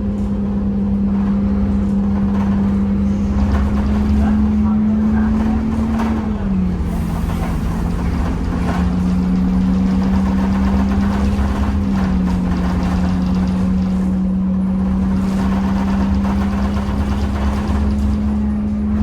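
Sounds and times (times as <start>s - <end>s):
bus engine droning: 0.0s - 19.0s
road rumble: 0.0s - 19.0s.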